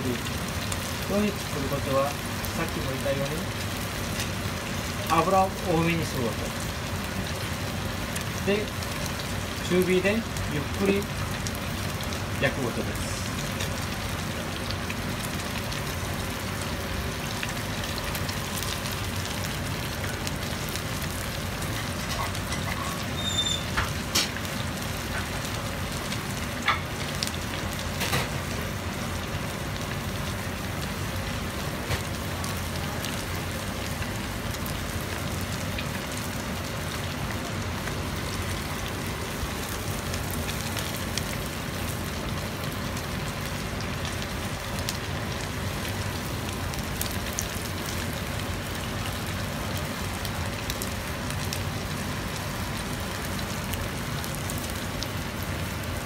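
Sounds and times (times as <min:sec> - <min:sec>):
pancake sizzling in oil: 0:00.0 - 0:56.0.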